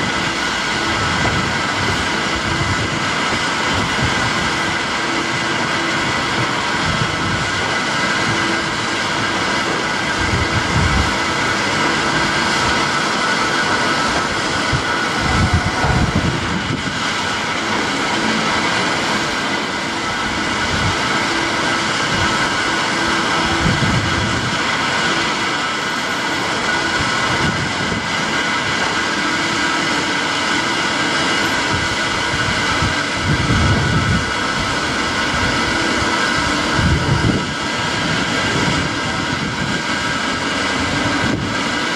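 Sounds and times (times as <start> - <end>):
train hum: 0.0 - 41.9.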